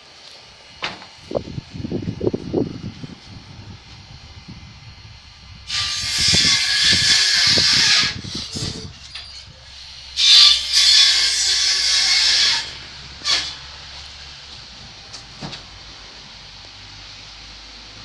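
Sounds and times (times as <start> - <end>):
loud hissing bursts: 0.5 - 17.7.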